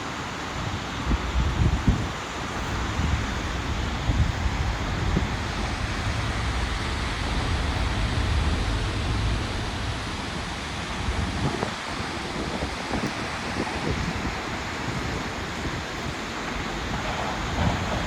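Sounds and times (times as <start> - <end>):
rushing water: 0.0 - 18.0
wind buffeting microphone: 0.2 - 18.0.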